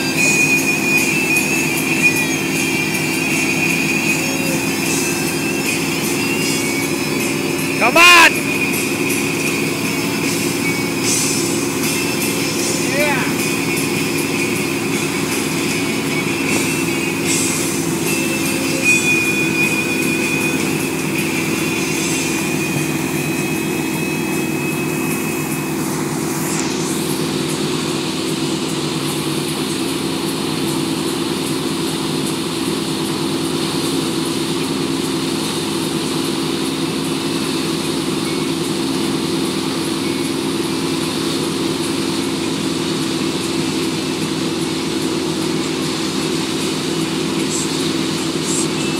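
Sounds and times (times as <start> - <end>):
boat engine droning: 0.0 - 48.9
churning wake water: 0.0 - 48.9.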